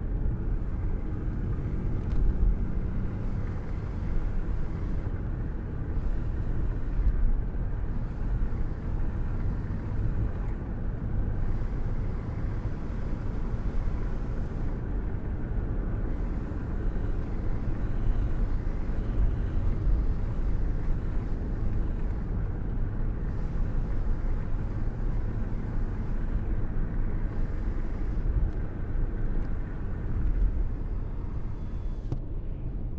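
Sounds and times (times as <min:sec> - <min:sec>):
low rumble of road noise: 0:00.0 - 0:32.9
wind buffeting at car window: 0:00.0 - 0:32.9.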